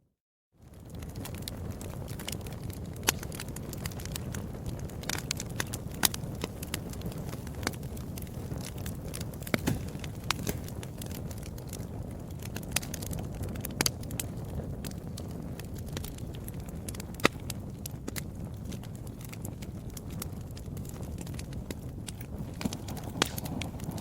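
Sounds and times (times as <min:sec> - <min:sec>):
low rush of burning: 0:00.6 - 0:24.0
wood fire popping and snapping: 0:00.6 - 0:24.0.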